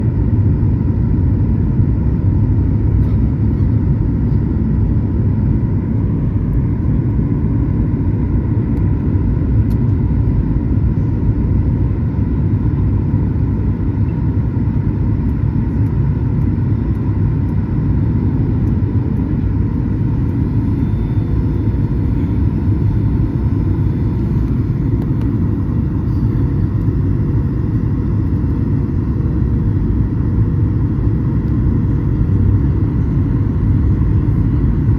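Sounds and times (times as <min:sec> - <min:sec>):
faint steady hum: 0:00.0 - 0:34.9
jet airliner rumble: 0:00.0 - 0:34.9.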